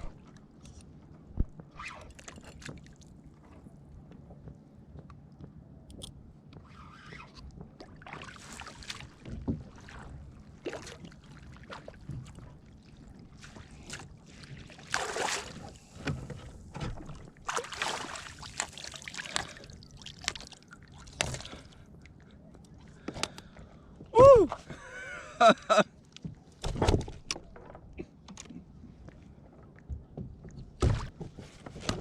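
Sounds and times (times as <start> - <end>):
water sloshing and splashing: 0.0 - 4.6, 6.6 - 24.8, 28.8 - 32.0.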